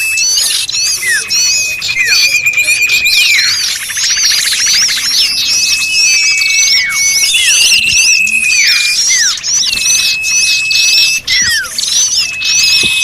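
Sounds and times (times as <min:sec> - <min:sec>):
falling slurred bird calls: 0:00.0 - 0:13.0
fast chattering bird trill: 0:00.0 - 0:13.0
high bird chips: 0:00.0 - 0:13.0
whistled bird notes: 0:00.0 - 0:13.0.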